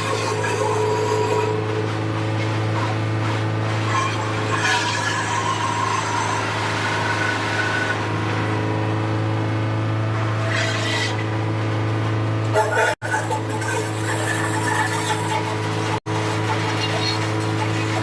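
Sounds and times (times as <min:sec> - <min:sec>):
wood crusher humming: 0:00.0 - 0:18.0.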